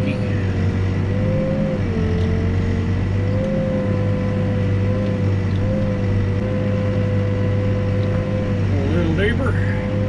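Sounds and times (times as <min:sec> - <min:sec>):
diesel engine running: 0:00.0 - 0:10.0
wavering whine: 0:00.0 - 0:10.0.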